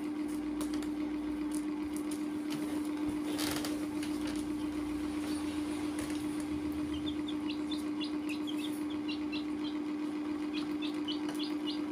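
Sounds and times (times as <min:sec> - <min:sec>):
steady hum: 0:00.0 - 0:11.9
baby chicks peeping: 0:01.5 - 0:11.9.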